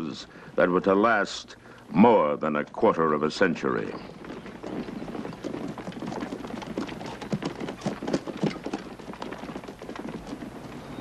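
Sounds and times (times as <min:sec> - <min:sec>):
horse hooves clopping: 0:02.1 - 0:11.0.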